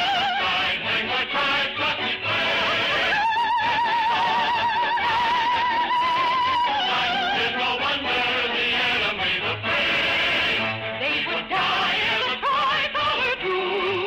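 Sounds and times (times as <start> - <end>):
operatic soprano singing: 0.0 - 14.0.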